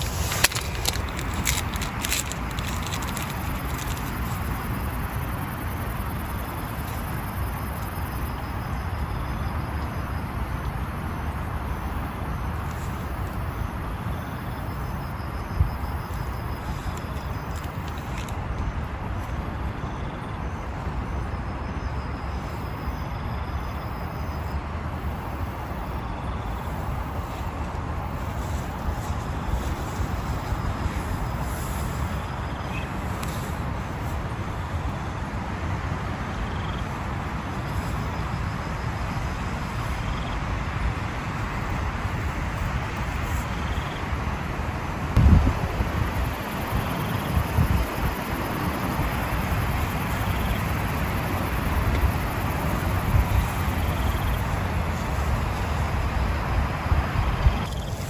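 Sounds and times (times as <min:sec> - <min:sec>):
deep rumble of wind: 0:00.0 - 0:58.0.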